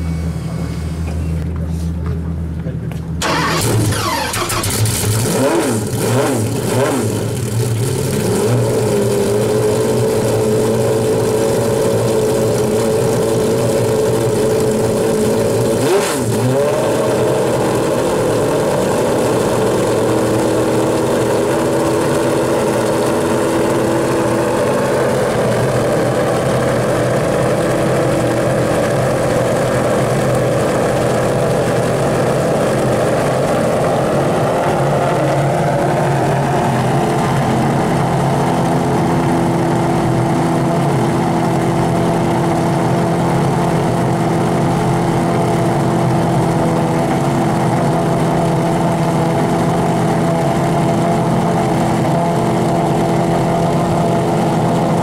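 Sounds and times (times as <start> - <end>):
sports car engine revving and idling: 0.0 - 55.0.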